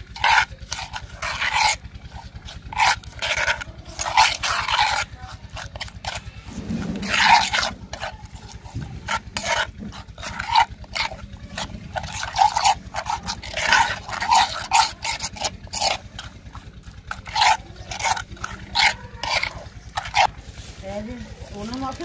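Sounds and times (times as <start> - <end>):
low hum: 0.0 - 22.0
metal spoon scraping clay bowl: 0.0 - 22.0.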